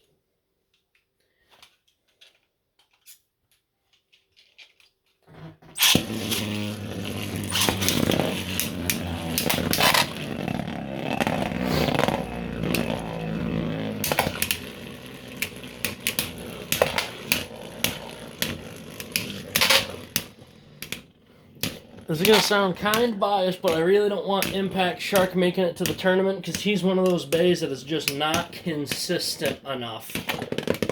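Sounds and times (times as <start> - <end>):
spinning tops colliding: 5.8 - 30.9
spinning tops whirring: 5.8 - 30.9.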